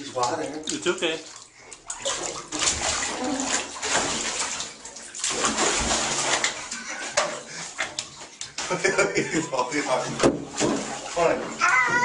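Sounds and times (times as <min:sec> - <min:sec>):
water splashing in bathtub: 0:00.0 - 0:12.0.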